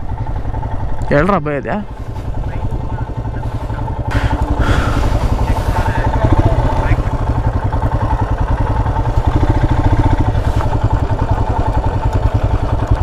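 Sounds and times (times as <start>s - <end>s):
motorcycle engine thumping at low revs: 1.9s - 13.0s.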